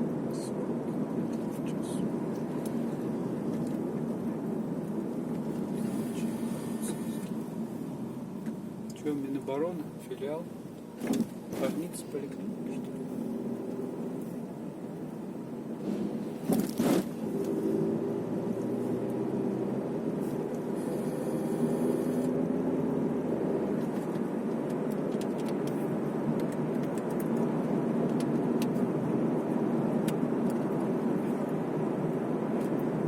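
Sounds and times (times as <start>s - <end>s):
car engine hum: 0.0s - 33.0s
road and tyre noise: 0.0s - 33.0s.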